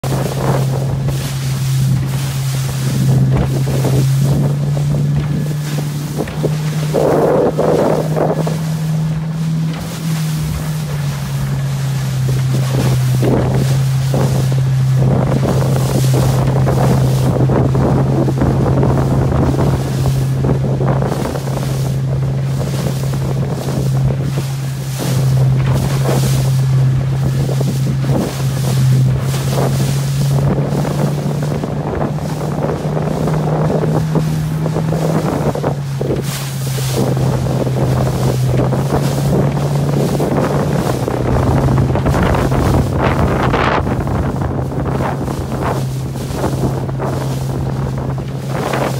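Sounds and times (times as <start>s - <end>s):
motorboat engine running: 0.0s - 48.9s
water rushing past: 0.0s - 48.9s
wind buffeting microphone: 0.0s - 48.9s.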